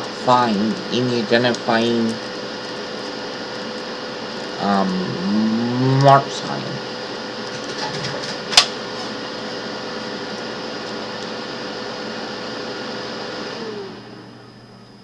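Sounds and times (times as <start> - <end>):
electric motor hum: 0.0 - 15.0.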